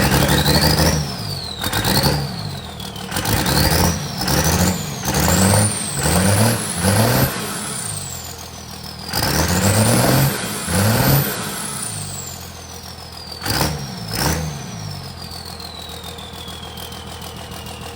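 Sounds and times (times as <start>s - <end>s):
diesel engine revving: 0.0s - 17.9s
turbo whistle: 0.0s - 17.9s.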